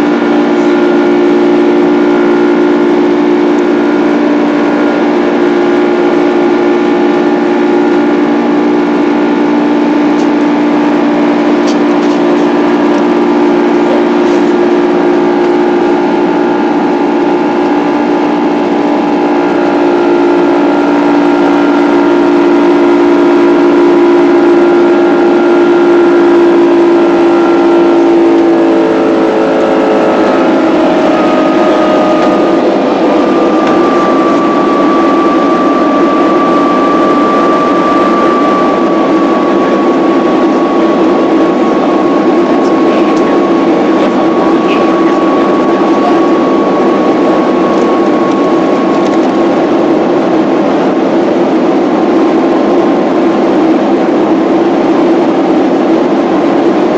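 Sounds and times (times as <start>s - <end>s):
high whine: 0.0s - 56.9s
jet engines roaring in cabin: 0.0s - 56.9s.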